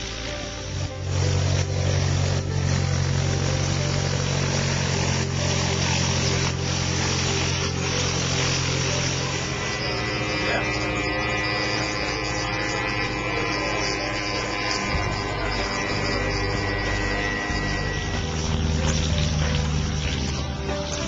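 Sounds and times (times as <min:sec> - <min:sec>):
light aircraft engine and propeller: 0:00.0 - 0:21.0.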